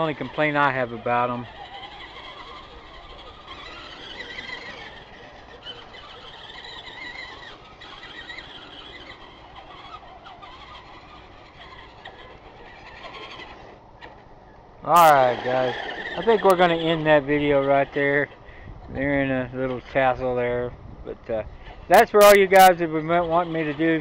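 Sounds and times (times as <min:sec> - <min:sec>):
toy car electric motors whining: 0:00.0 - 0:18.4, 0:21.6 - 0:24.0.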